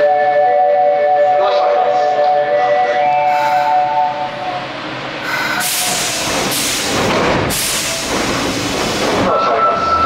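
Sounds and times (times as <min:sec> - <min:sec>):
subway train hiss and rail noise: 0:00.0 - 0:10.0.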